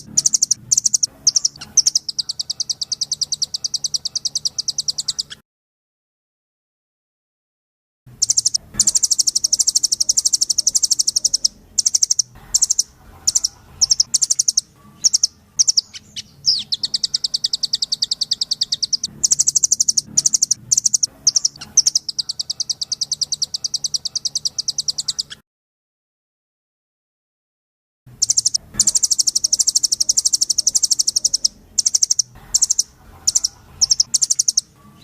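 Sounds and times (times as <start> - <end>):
songbird singing rapid high notes: 0.0 - 5.4, 8.1 - 25.4, 28.1 - 35.0.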